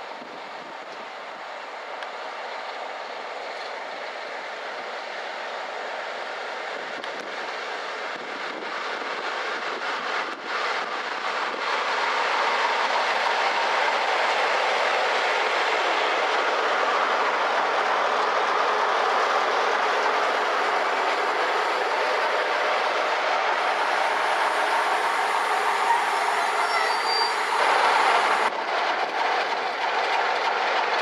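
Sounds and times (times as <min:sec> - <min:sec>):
diesel train rumbling: 0:00.0 - 0:31.0.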